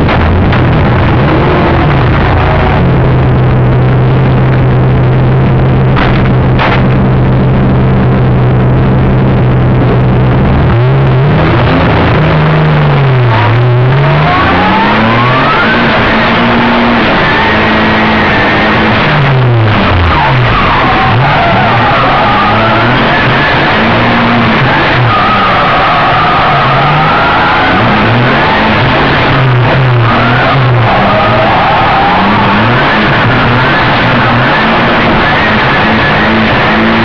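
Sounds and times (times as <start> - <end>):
car engine revving: 0.0 - 37.0
rushing noise: 0.0 - 37.0.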